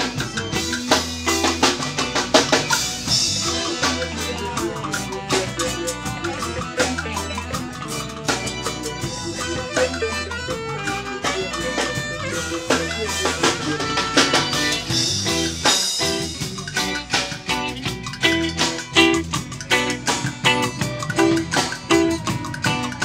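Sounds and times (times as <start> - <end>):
deep bass notes: 0.0 - 23.0
drum kit beat: 0.0 - 23.0
higher instrument lines: 0.0 - 23.0.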